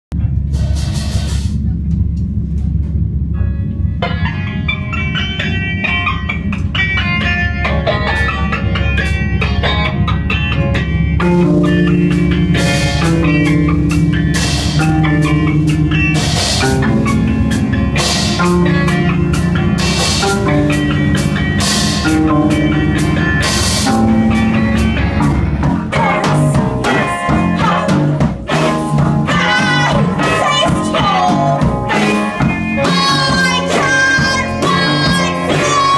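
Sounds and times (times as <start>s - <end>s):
drums: 0.1s - 35.9s
picked guitar notes: 1.6s - 35.9s.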